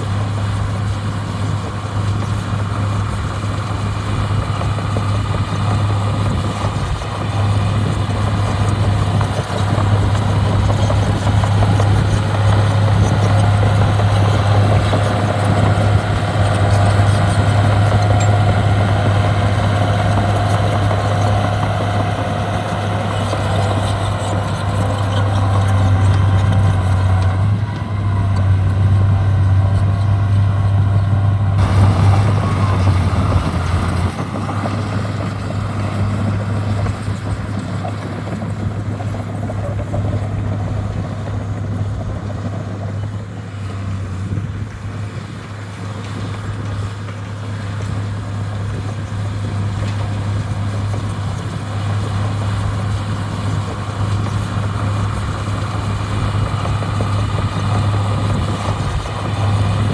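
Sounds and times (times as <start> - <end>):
heavy diesel machinery drone: 0.0 - 59.9.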